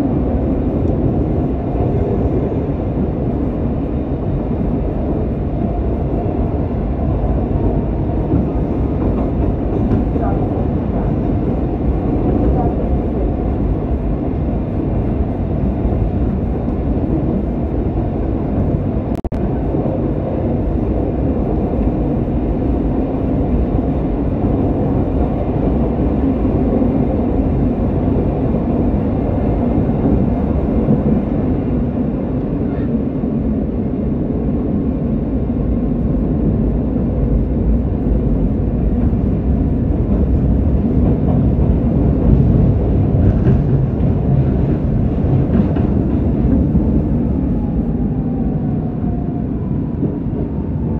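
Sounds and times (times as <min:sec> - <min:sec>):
metro train rumbling in tunnel: 0:00.0 - 0:50.9.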